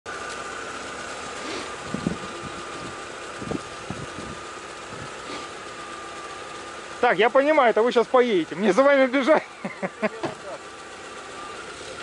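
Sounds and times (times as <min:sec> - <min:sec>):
vehicle engines idling: 0:00.1 - 0:12.0.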